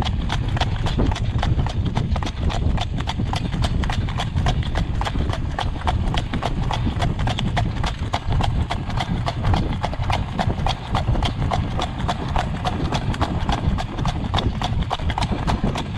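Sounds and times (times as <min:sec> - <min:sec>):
horse hooves on gravel: 0:00.0 - 0:15.9
steady low rumble: 0:00.0 - 0:15.9.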